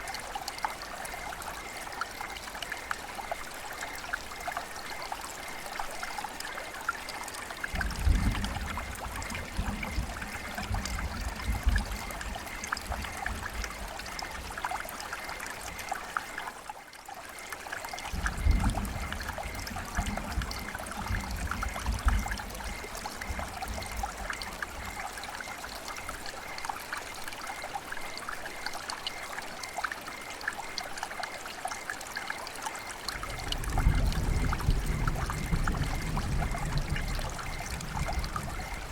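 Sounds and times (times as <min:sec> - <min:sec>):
river water flowing: 0:00.0 - 0:08.0, 0:08.8 - 0:38.9.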